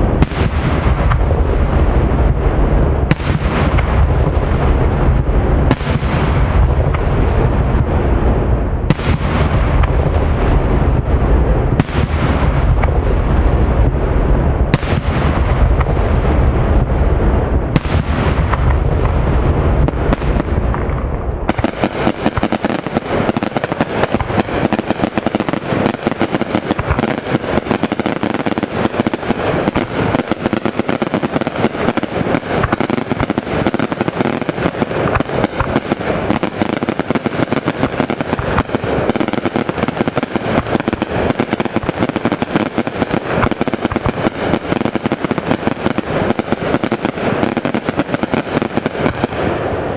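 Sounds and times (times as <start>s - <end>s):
fireworks barrage: 0.0s - 49.9s
fireworks crackle: 0.0s - 49.9s.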